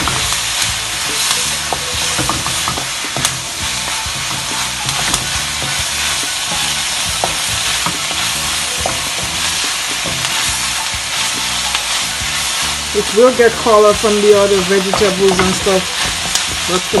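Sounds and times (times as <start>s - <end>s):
fish and onions sizzling: 0.0s - 17.0s
wooden spatula scraping pan: 0.0s - 17.0s.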